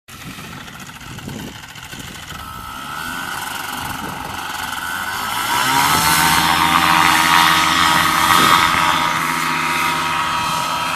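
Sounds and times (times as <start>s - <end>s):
paramotor engine and propeller: 0.1s - 10.9s.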